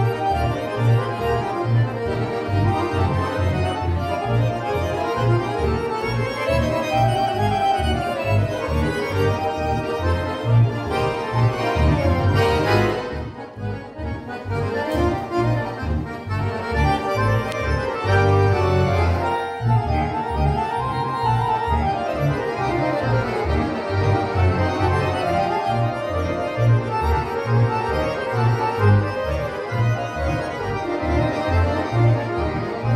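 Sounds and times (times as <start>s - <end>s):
accordion ensemble playing: 0.0s - 32.9s.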